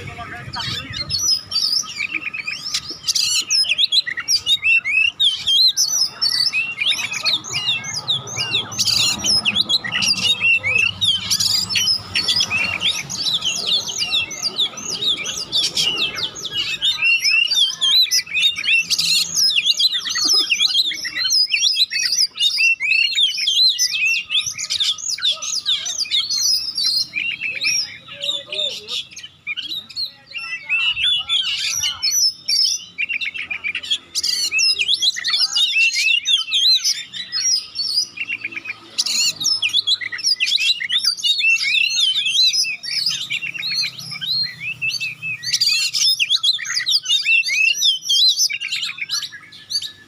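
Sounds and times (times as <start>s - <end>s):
bird chirping and trilling: 0.0s - 50.0s.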